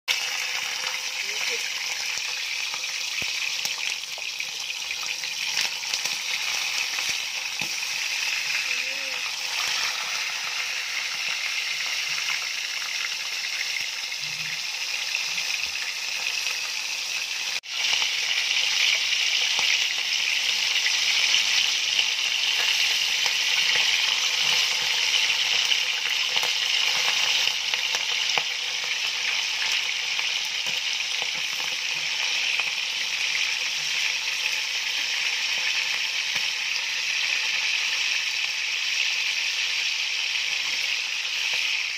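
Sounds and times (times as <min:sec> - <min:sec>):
fish sizzling in hot oil: 0:00.1 - 0:41.9.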